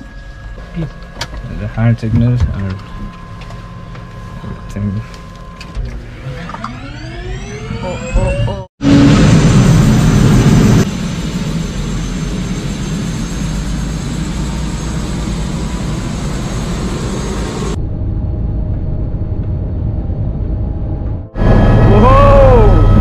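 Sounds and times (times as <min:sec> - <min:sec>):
faint turbine whine: 0:00.0 - 0:23.0
helicopter engine and rotor rushing: 0:00.0 - 0:23.0.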